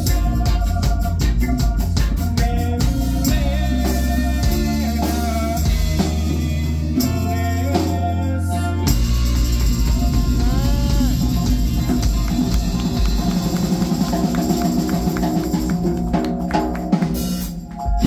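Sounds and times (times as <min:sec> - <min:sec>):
person singing: 0:00.0 - 0:15.5
live band playing: 0:00.0 - 0:18.0.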